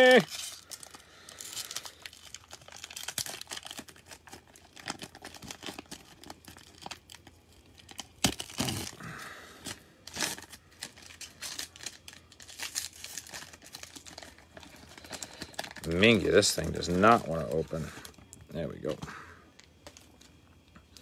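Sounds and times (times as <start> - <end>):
plastic wrapper crinkling and tearing: 0.0 - 21.0.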